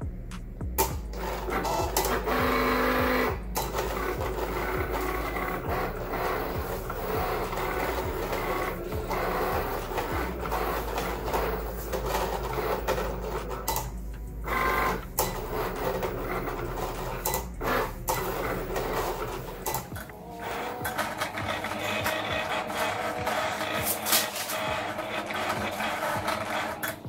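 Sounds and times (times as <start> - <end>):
cutting machine motors whirring: 0.8 - 27.0.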